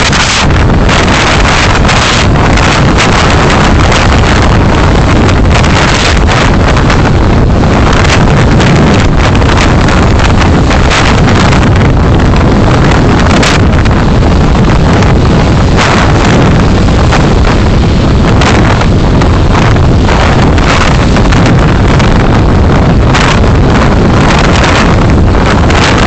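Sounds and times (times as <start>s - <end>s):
car road and wind noise: 0.0s - 26.0s.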